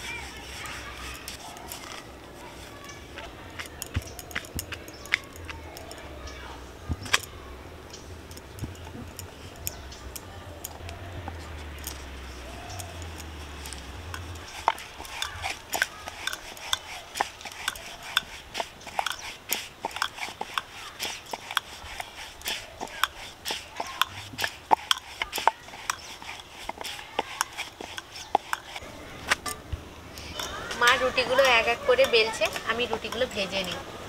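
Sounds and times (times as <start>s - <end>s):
rolling pin working dough: 0.0s - 29.6s, 30.2s - 33.9s.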